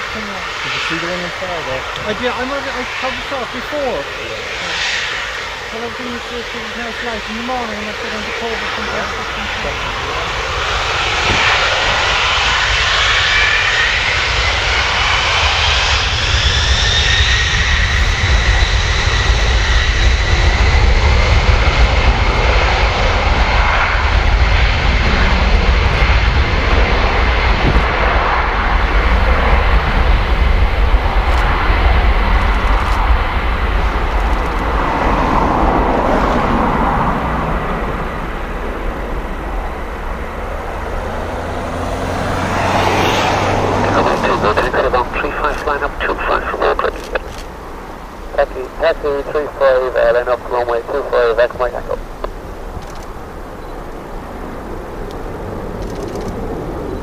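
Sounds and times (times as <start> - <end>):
jet engines spooling up: 0.0 - 57.0
loud jet roar: 0.0 - 57.0.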